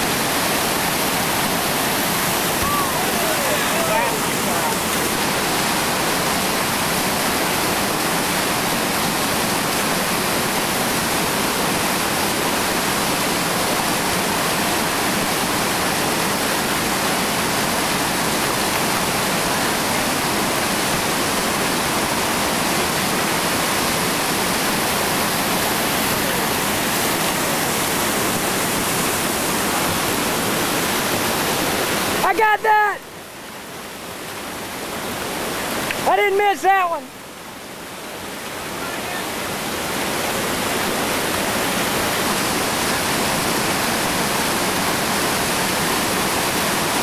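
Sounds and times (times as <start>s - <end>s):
whitewater rapids rushing: 0.0s - 47.0s.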